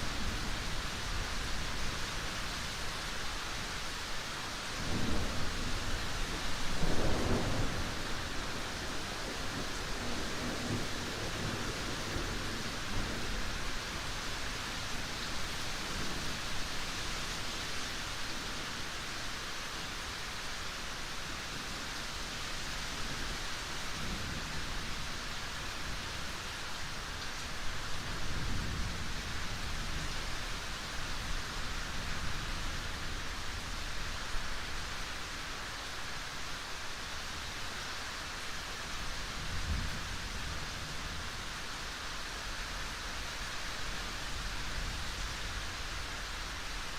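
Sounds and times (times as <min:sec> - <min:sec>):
rain hiss: 0:00.0 - 0:46.9.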